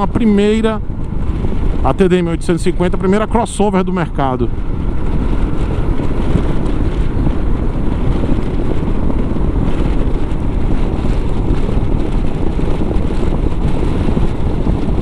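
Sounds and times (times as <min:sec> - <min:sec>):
motorcycle engine drone: 0:00.0 - 0:15.0
tyres on road: 0:00.0 - 0:15.0
wind rushing over microphone: 0:00.0 - 0:15.0.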